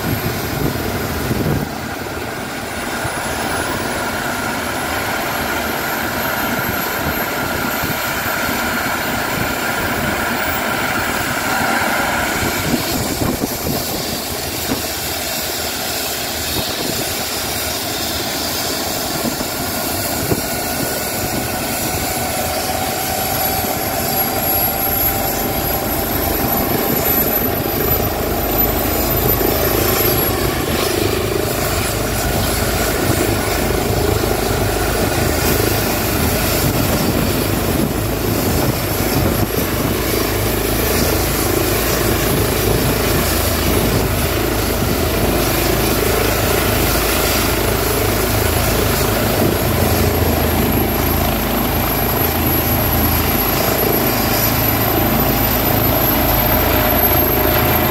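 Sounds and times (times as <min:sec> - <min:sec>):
helicopter turbine whine: 0:00.0 - 0:57.9.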